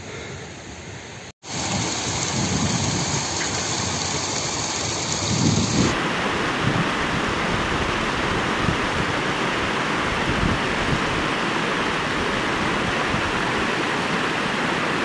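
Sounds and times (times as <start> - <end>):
waterfall rushing: 1.4 - 15.0.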